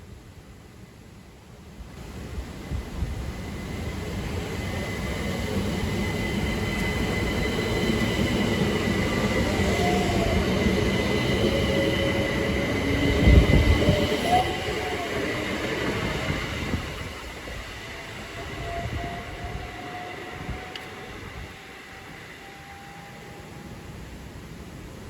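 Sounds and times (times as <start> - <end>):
electric train motors whining: 3.8 - 24.2.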